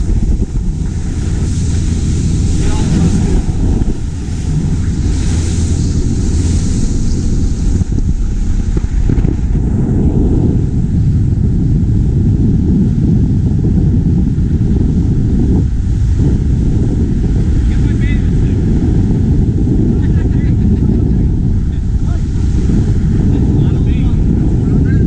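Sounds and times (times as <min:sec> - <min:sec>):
boat engine: 0:00.0 - 0:25.0
water rushing along boat hull: 0:00.0 - 0:25.0
wind buffeting microphone: 0:00.0 - 0:25.0.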